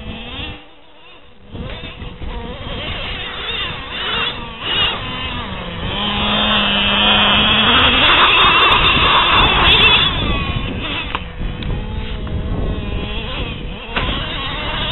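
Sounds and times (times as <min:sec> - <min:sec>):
small two-stroke engine revving: 0:00.0 - 0:14.9.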